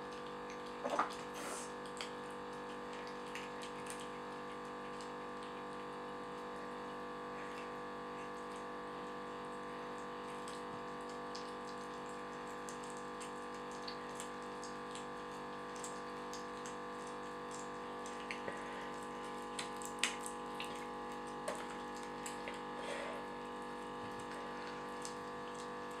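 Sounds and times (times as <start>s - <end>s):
kittens chewing and crunching: 0.0s - 26.0s
steady background hum: 0.0s - 26.0s.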